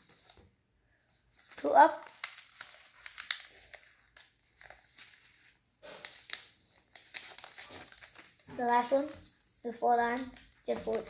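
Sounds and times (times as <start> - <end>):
paper crackling as folded: 1.2 - 11.0.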